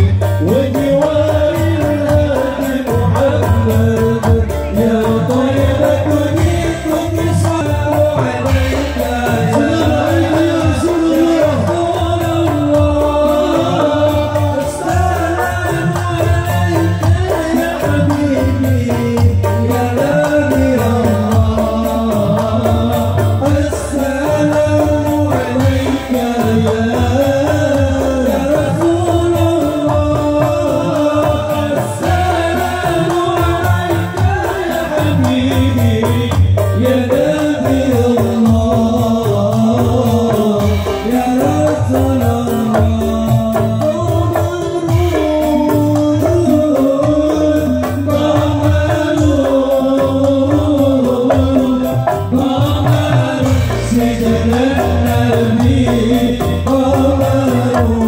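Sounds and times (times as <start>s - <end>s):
frame drums hand drumming: 0.0s - 58.0s
men singing devotional melody: 0.0s - 58.0s.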